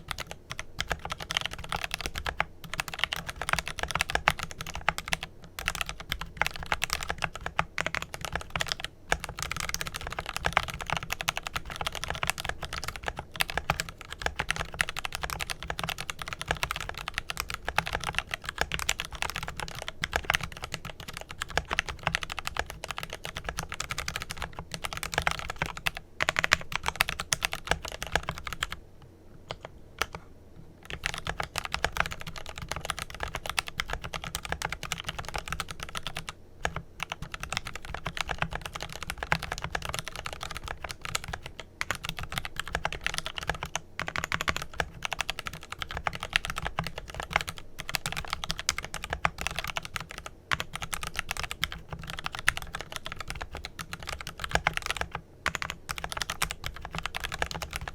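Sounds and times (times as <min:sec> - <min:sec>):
mechanical keyboard typing: 0:00.0 - 0:28.8, 0:29.4 - 0:30.2, 0:30.8 - 0:57.9.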